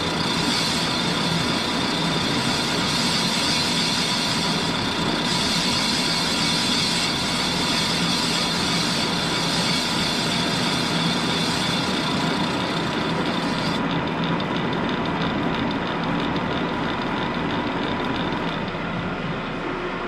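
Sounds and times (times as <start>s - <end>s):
milling machine cutting metal: 0.0s - 19.2s.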